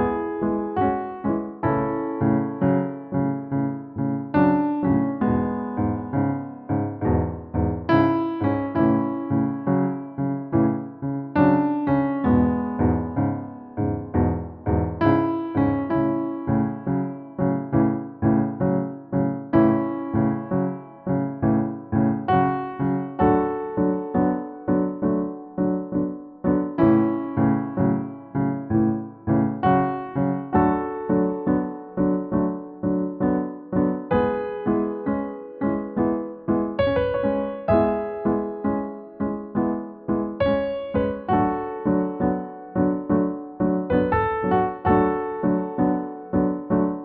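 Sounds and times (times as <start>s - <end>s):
piano music: 0.0s - 47.0s.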